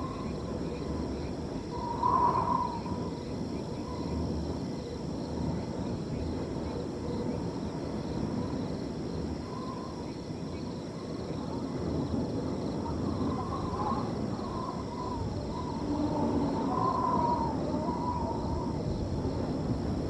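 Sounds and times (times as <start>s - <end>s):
crickets trilling: 0.0s - 20.0s
wind blowing: 0.0s - 20.0s.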